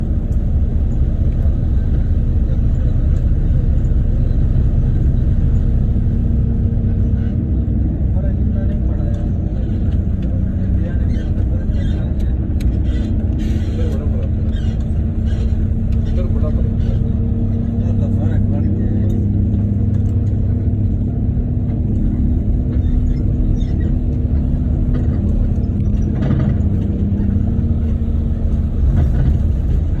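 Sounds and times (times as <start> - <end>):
engines rumbling: 0.0 - 30.0.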